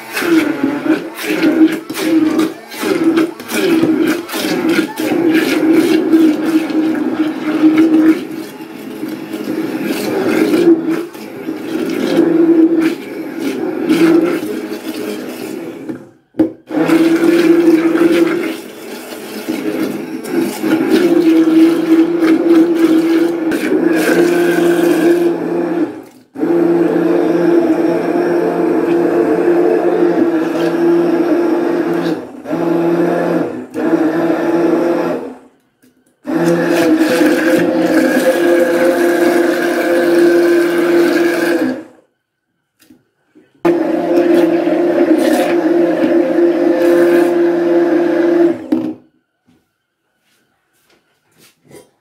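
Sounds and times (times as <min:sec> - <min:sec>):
immersion blender motor hum: 0:00.0 - 0:15.8, 0:19.4 - 0:35.3, 0:36.3 - 0:41.9, 0:43.7 - 0:48.9.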